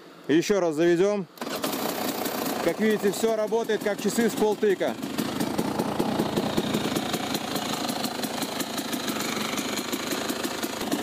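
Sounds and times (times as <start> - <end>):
motorcycle engine idling: 1.7 - 11.0.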